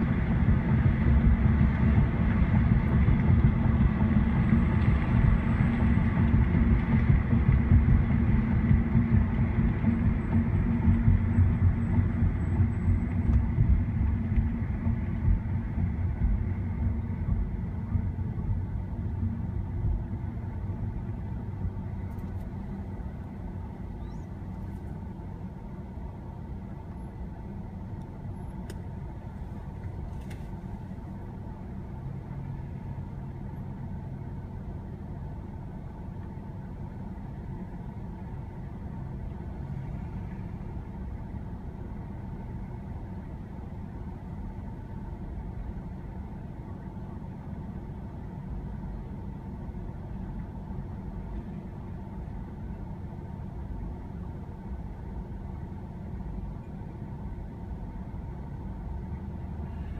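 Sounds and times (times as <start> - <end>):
car engine idling: 0.0 - 59.9
car tyre and engine rumble: 0.0 - 59.9.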